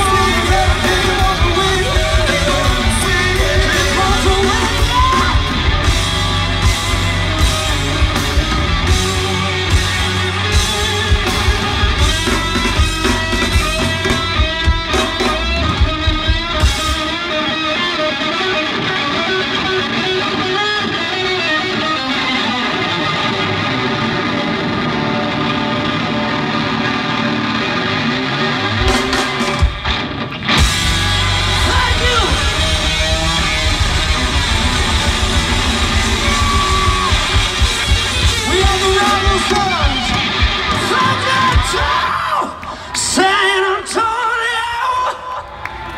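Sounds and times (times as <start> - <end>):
bass guitar: 0.0 - 42.9
drums: 0.0 - 45.9
electric guitar: 0.0 - 45.9.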